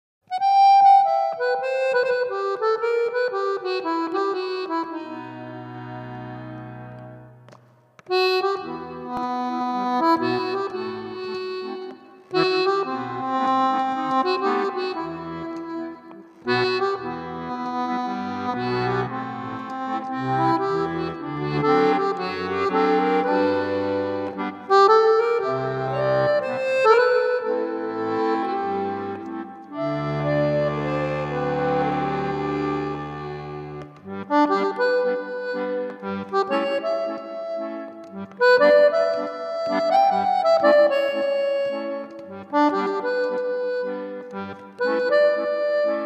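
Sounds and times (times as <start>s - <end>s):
instrumental music with reedy notes: 0.2s - 46.0s.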